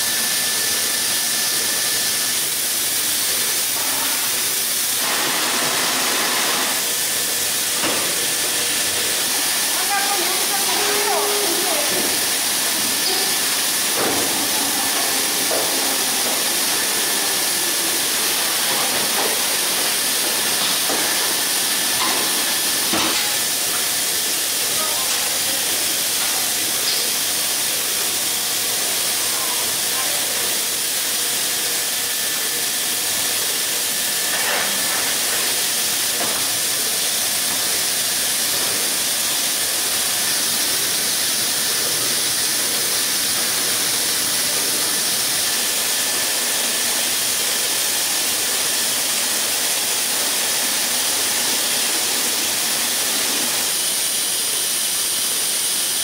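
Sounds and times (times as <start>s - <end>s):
factory equipment hissing: 0.0s - 56.0s.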